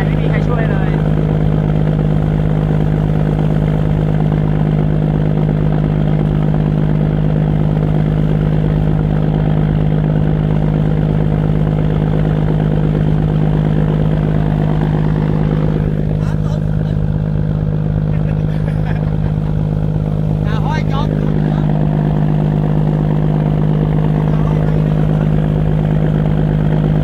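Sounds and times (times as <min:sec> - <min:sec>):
boat engine running steadily: 0:00.0 - 0:27.0.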